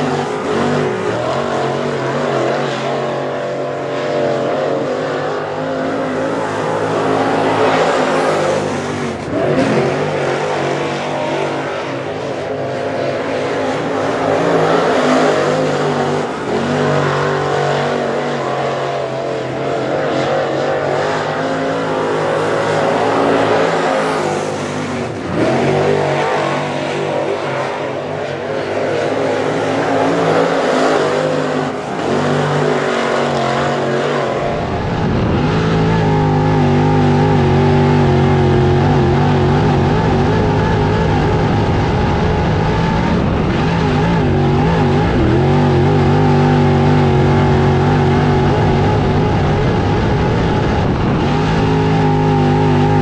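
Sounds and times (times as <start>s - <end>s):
race car engine running hard: 0.0s - 53.0s.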